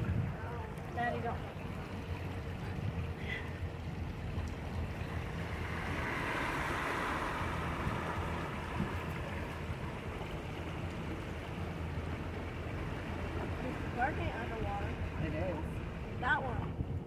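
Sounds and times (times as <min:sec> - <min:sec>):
car driving rumble from inside: 0:02.6 - 0:17.0.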